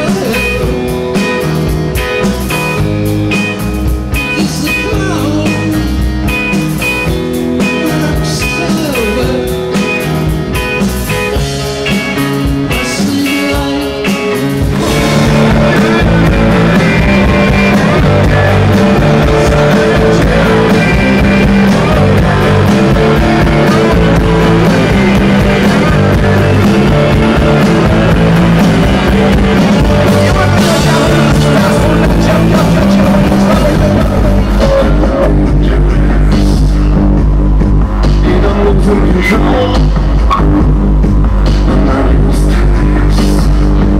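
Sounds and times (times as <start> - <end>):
loud dense music: 0.0 - 43.9
rock music with singing: 0.0 - 43.9.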